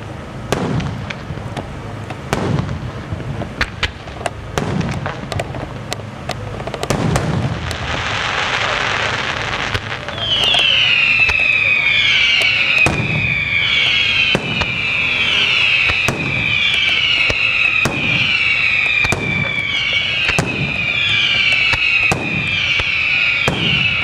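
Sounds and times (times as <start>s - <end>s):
fireworks whistling: 2.2s - 24.0s
fireworks shells bursting: 3.3s - 24.0s.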